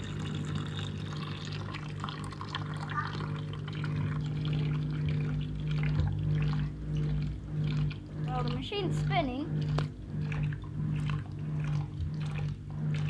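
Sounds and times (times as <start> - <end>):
drain water gushing and splashing: 0.0 - 13.0
washing machine humming: 0.0 - 13.0.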